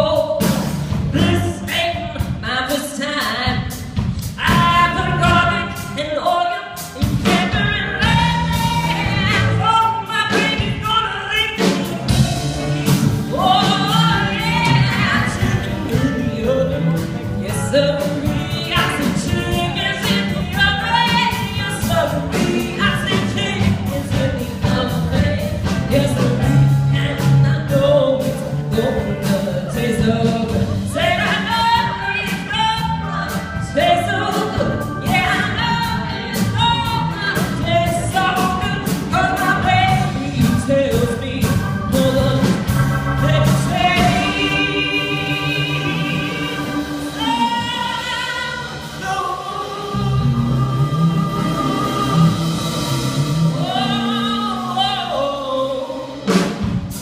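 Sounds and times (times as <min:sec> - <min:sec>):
instrumental accompaniment with beat: 0:00.0 - 0:57.0
person singing: 0:04.4 - 0:56.5.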